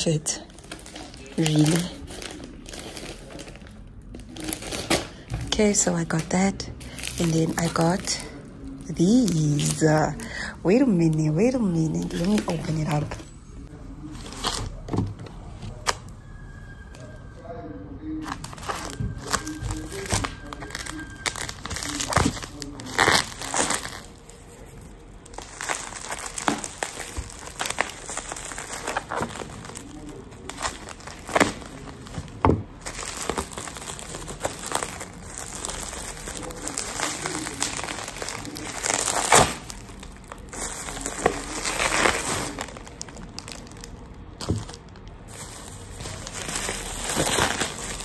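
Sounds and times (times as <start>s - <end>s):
bubble wrap crinkling and crackling: 0.0s - 17.2s, 18.2s - 48.0s.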